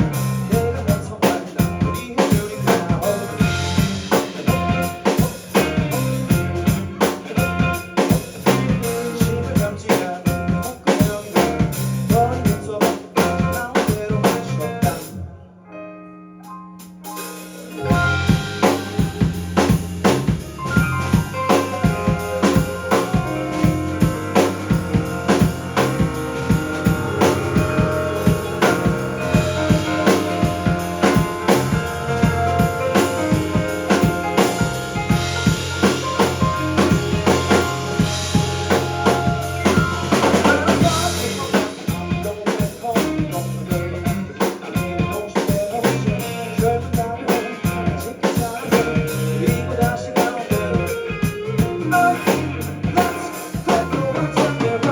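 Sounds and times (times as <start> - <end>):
drum kit beat: 0.0 - 15.1, 16.8 - 54.9
rock band playing: 0.0 - 54.9.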